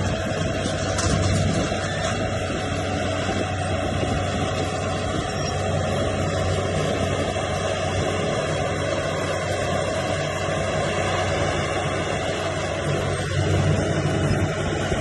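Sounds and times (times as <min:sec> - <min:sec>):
heavy machinery engine humming: 0:00.0 - 0:15.0.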